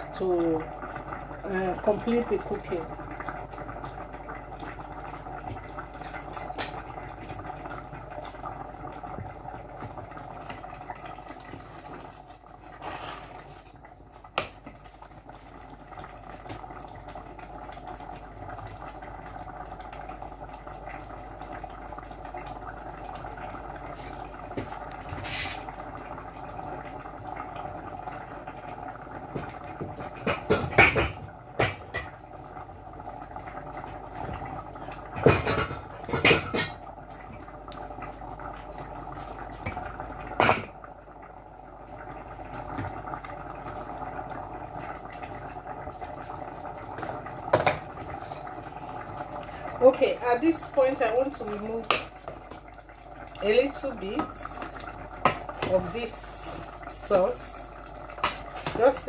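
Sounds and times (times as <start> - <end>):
sauce bubbling in pot: 0.0 - 59.0.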